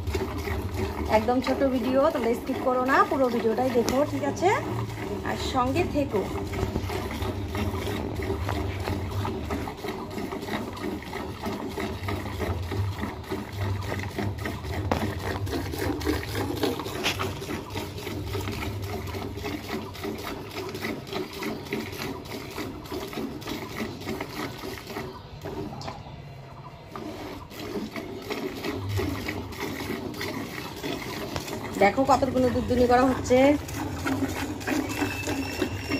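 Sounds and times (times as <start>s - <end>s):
milk squirting into a vessel: 0.0s - 26.1s, 26.8s - 35.9s.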